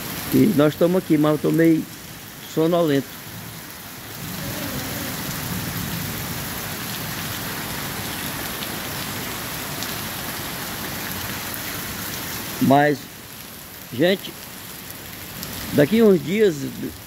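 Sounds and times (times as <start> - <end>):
heavy rain on street: 0.0 - 17.0.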